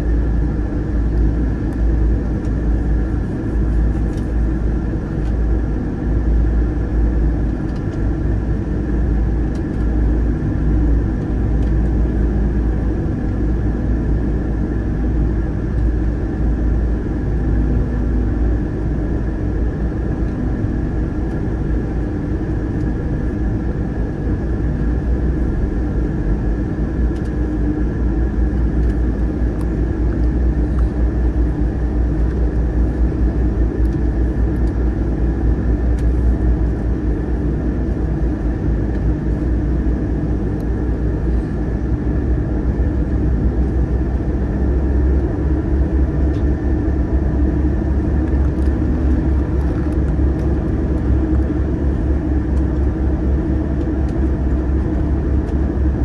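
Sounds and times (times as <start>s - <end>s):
ferry engines droning: 0.0s - 56.0s.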